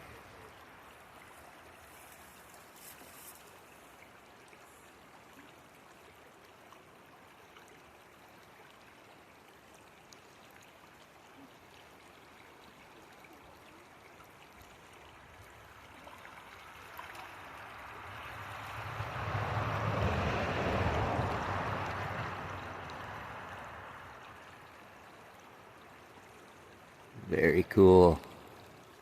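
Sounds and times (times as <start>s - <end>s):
river water flowing: 0.0s - 29.0s.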